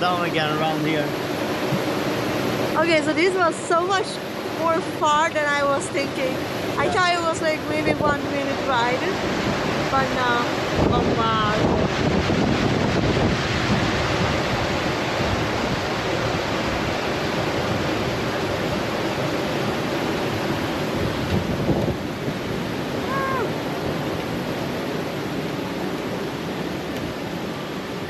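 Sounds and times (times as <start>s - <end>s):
coaster sled rumbling on track: 0.0s - 28.0s
wind on microphone: 0.0s - 28.0s.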